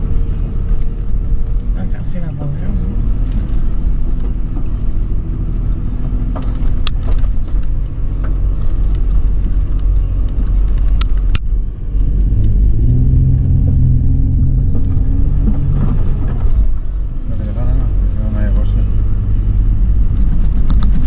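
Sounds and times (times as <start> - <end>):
suv engine rumbling under load: 0.0 - 21.0.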